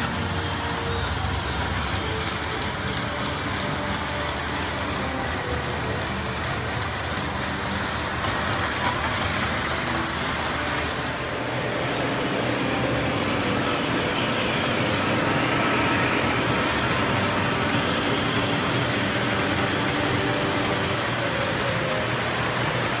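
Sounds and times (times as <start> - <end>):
model train rolling rumble: 0.0 - 23.0.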